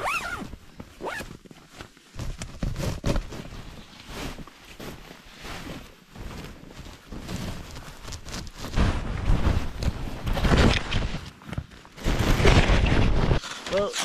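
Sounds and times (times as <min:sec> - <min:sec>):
tent zipper running: 0:00.0 - 0:11.2
tent fabric rustling: 0:00.0 - 0:13.9.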